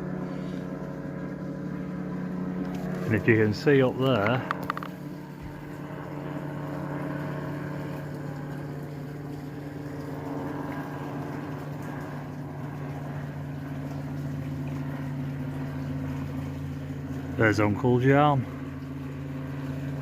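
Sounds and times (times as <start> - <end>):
machine droning: 0.0 - 20.0.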